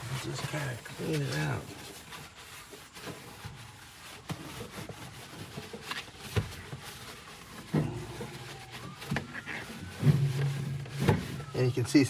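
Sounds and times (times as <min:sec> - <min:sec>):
paper towel rubbing plastic: 0:00.0 - 0:12.0
soft rustling: 0:00.0 - 0:12.0.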